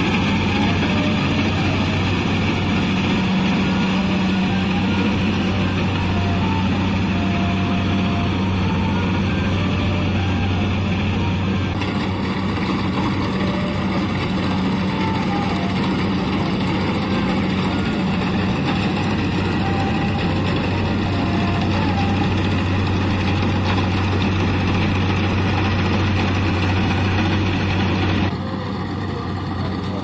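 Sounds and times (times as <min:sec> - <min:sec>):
diesel engine humming: 0:00.0 - 0:30.0.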